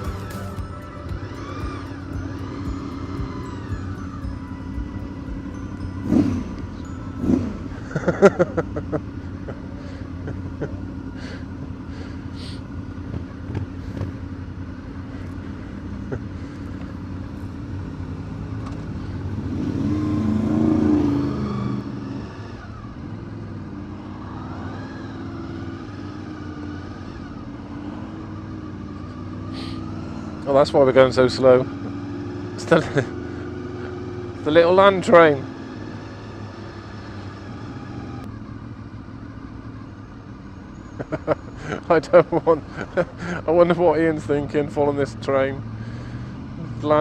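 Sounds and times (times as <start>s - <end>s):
motorcycle engine humming: 0.0s - 47.0s.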